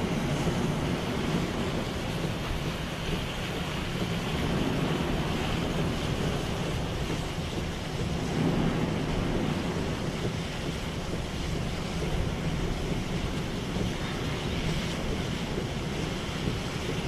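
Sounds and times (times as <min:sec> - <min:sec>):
tyre noise on wet road: 0:00.0 - 0:17.0
wind and rain around car: 0:00.0 - 0:17.0.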